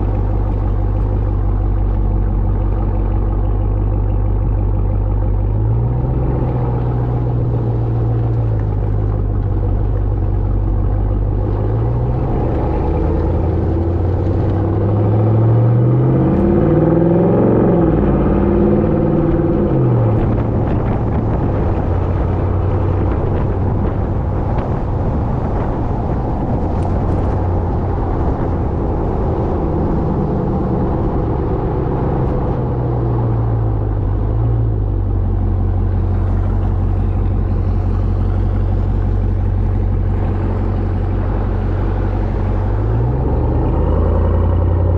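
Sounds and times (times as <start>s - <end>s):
truck exhaust rumbling: 0.0s - 44.9s.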